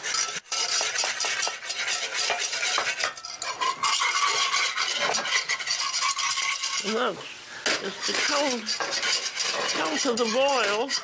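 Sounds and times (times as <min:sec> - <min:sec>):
whisk scraping a saucepan: 0:00.0 - 0:11.0.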